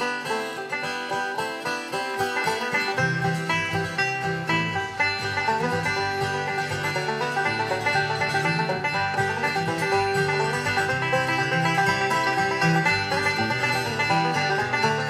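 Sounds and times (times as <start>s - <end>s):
bluegrass music with banjo: 0.0s - 15.0s.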